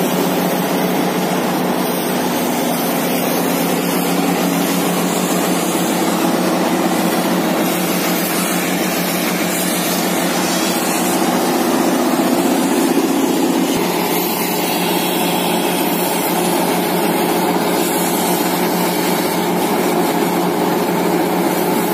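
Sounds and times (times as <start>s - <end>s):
diesel engine droning: 0.0s - 21.9s.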